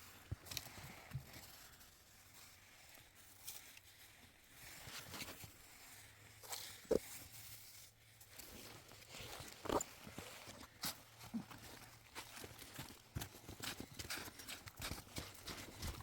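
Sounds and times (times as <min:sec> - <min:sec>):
knocks and rustles of handling: 0:00.1 - 0:16.0.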